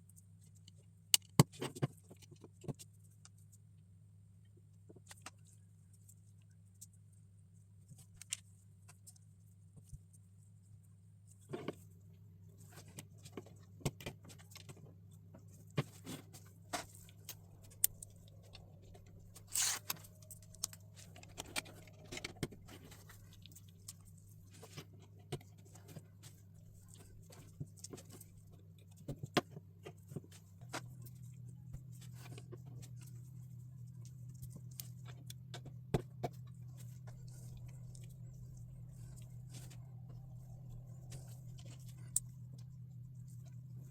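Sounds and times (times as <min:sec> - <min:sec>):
steady low hum: 0:02.9 - 0:43.9.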